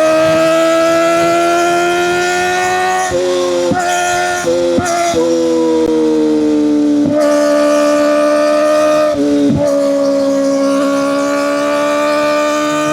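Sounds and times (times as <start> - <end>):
motorcycle engine revving high: 0.0 - 12.9.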